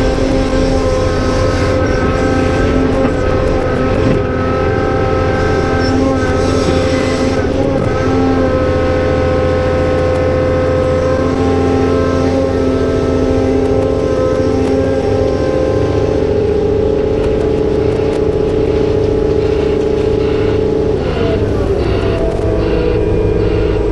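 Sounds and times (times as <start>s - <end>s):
excavator diesel engine: 0.0s - 23.9s
hydraulic pump whining: 0.0s - 23.9s.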